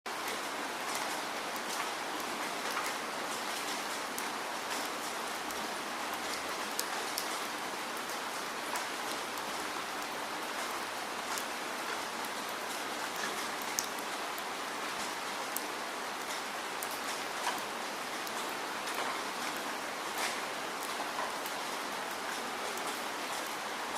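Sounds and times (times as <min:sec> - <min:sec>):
steady rain: 0:00.1 - 0:23.9
raindrop ticks: 0:00.2 - 0:23.6.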